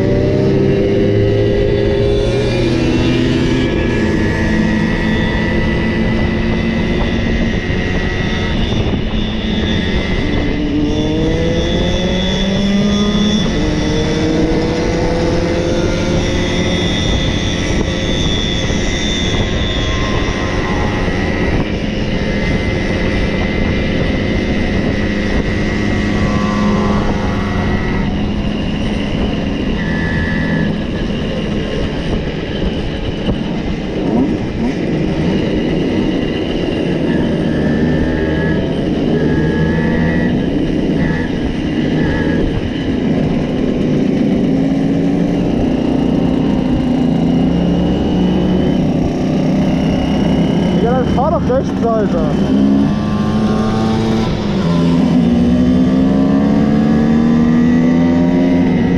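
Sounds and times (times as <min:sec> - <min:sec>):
constant rush of noise: 0:00.0 - 0:58.9
moped engine accelerating: 0:00.0 - 0:58.9
mopeds buzzing: 0:00.0 - 0:58.9.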